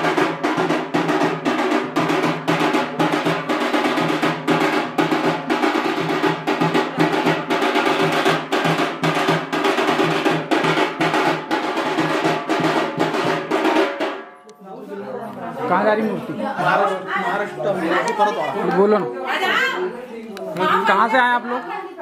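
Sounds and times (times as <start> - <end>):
rhythmic drum music: 0.0 - 14.8, 15.6 - 21.5.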